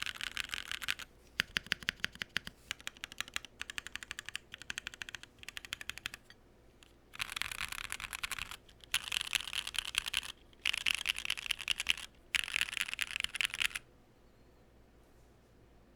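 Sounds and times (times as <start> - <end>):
mechanical keyboard typing: 0.0 - 6.3, 7.2 - 13.8.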